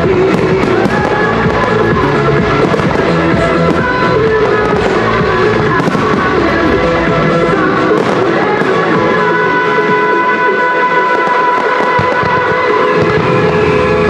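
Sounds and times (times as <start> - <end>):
firework bangs: 0.0 - 14.0
loud music: 0.0 - 14.0.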